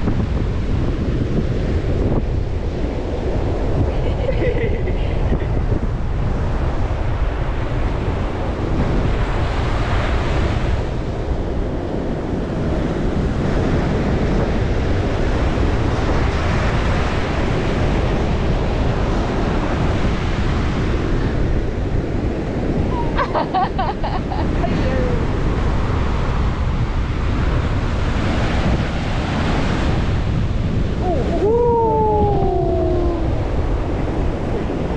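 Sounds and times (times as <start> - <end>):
ocean surf breaking: 0.0 - 34.9
wind buffeting microphone: 0.0 - 34.9.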